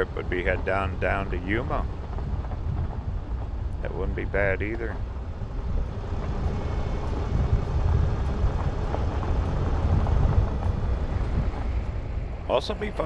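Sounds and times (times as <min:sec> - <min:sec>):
vehicle tyres and engine rumbling: 0:00.0 - 0:13.0.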